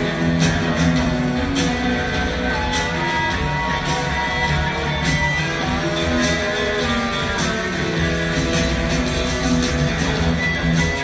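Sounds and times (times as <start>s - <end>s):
bass guitar: 0.0s - 11.0s
electric guitar: 0.0s - 11.0s.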